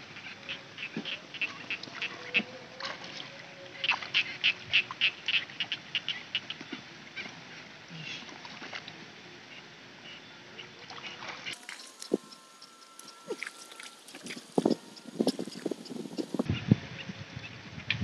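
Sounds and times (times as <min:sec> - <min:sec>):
frogs croaking: 0:00.0 - 0:08.7, 0:09.4 - 0:17.5.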